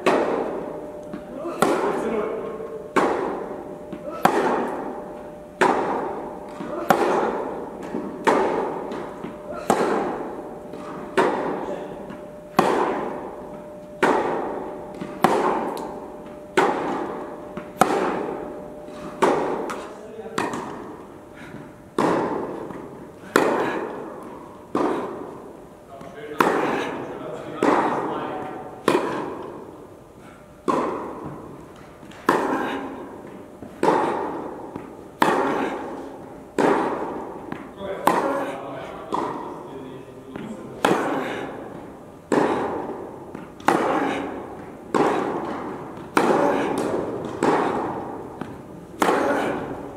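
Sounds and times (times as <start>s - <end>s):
tennis racket hitting ball: 0.0s - 49.9s.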